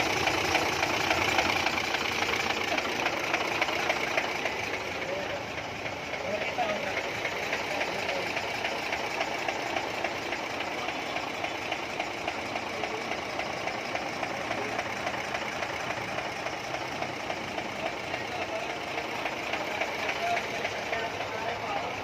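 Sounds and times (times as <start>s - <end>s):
engine idling with ticking clatter: 0.0s - 22.0s.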